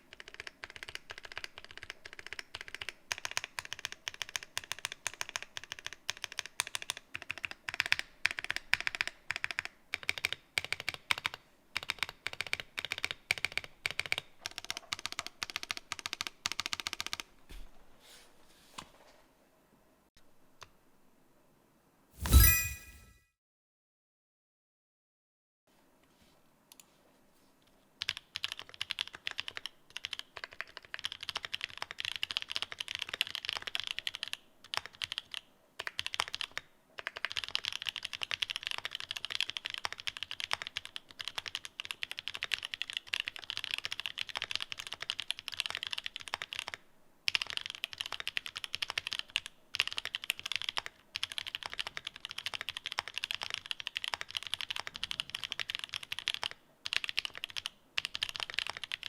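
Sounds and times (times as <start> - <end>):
fast typing on mechanical keyboard: 0.0 - 17.3, 28.0 - 59.0.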